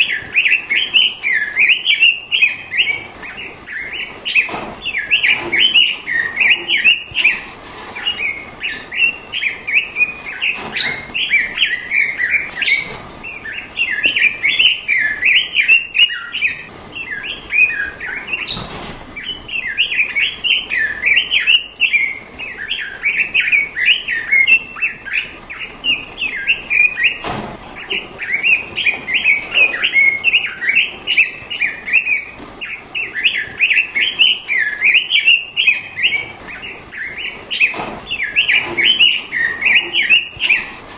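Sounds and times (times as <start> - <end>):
bird singing warbled phrases: 0.0 - 40.9.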